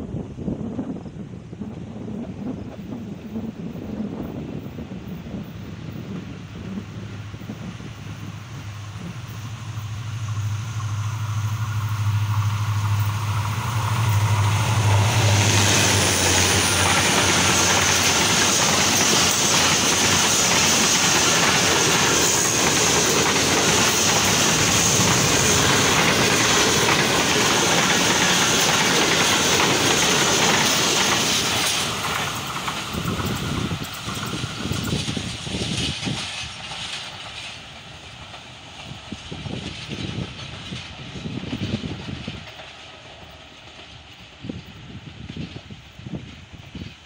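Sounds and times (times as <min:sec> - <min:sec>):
diesel locomotive engine drone: 0:00.0 - 0:47.0
train wheels clattering on rails: 0:01.6 - 0:47.0.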